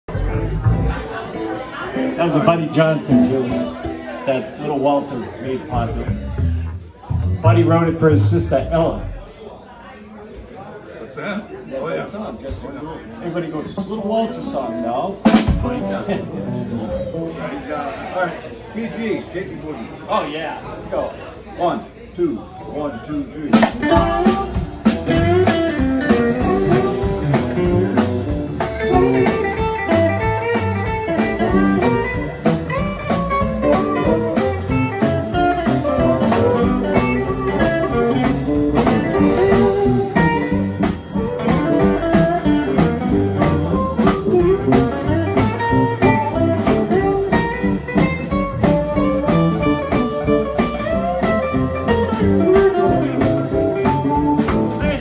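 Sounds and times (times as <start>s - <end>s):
live blues band playing: 0.1s - 9.4s, 13.6s - 18.1s, 23.5s - 55.0s.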